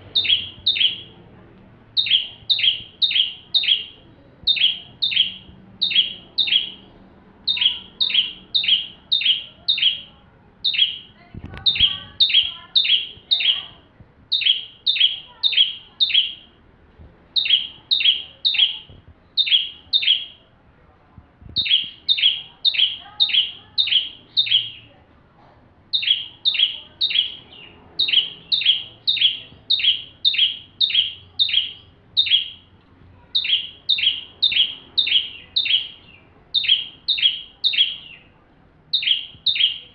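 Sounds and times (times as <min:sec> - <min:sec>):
bird singing sharp high chirps: 0:00.1 - 0:01.2, 0:01.9 - 0:16.6, 0:17.4 - 0:20.4, 0:21.5 - 0:24.9, 0:25.9 - 0:39.9.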